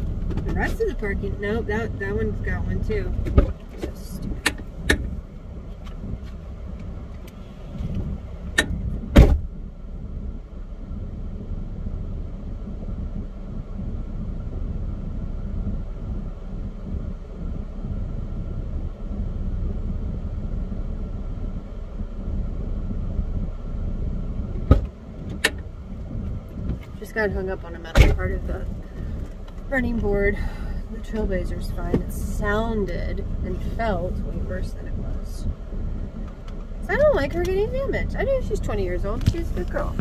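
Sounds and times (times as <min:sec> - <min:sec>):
car engine rumbling: 0:00.0 - 0:40.0.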